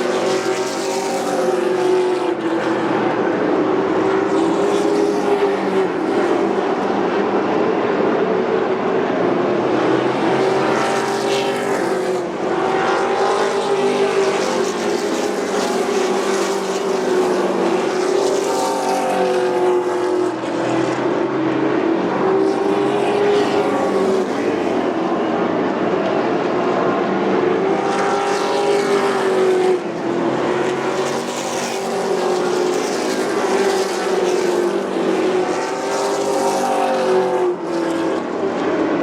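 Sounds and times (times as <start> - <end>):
race truck engines droning: 0.0 - 39.0.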